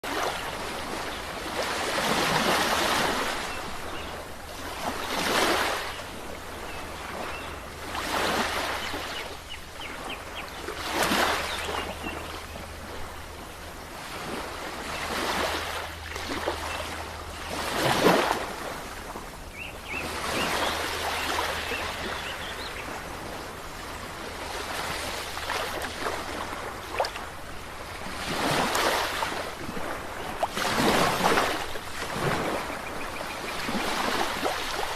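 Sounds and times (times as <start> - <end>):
sea waves breaking on shore: 0.0 - 34.9.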